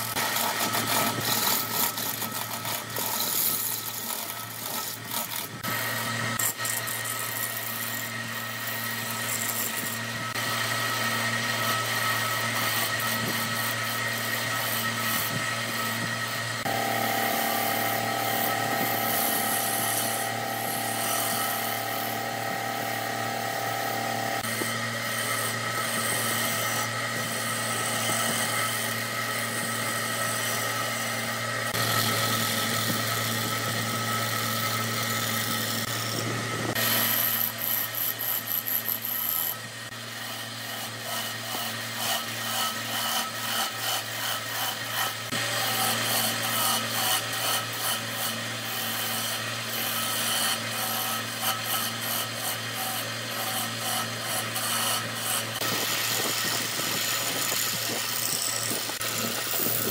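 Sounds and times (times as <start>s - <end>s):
gouge scraping spinning wood: 0.0s - 59.9s
lathe motor hum: 0.0s - 59.9s.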